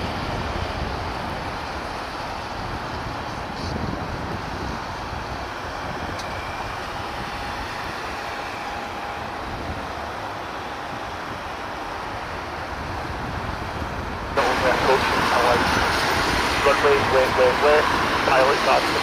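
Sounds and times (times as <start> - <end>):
distant vehicle noise: 0.0 - 19.0.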